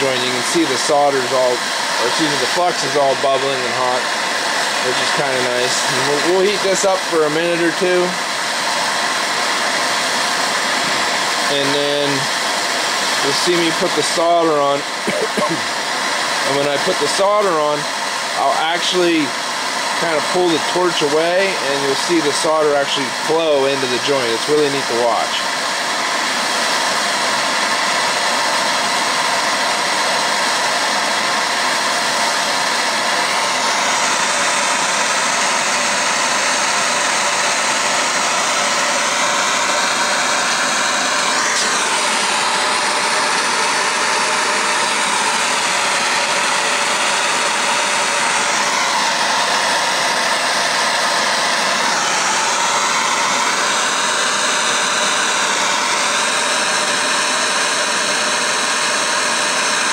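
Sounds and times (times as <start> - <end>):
torch flame hissing: 0.0 - 59.9.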